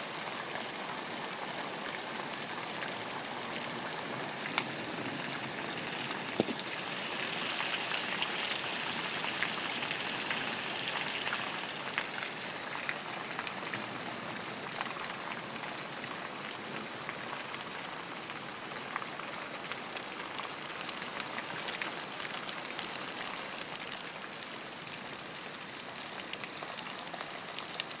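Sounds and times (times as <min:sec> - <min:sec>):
steady rain falling: 0:00.0 - 0:28.0
raindrops ticking nearby: 0:00.1 - 0:28.0.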